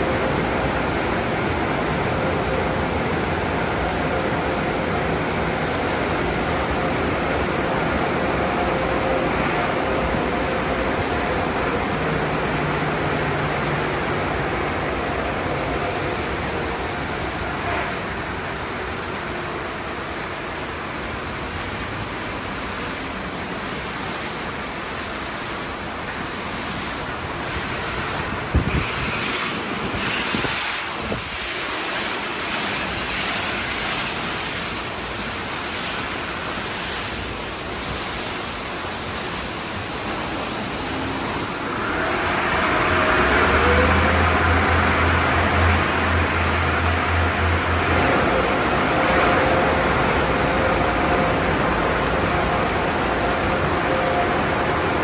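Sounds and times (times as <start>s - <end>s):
car wash equipment rushing: 0.0s - 55.0s.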